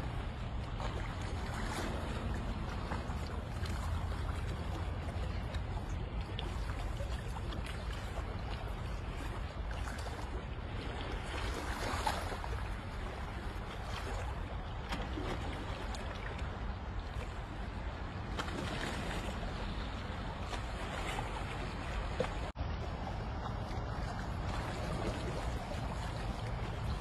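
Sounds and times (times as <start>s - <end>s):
water lapping against rocks: 0.0s - 27.0s
wind rumble: 0.0s - 27.0s.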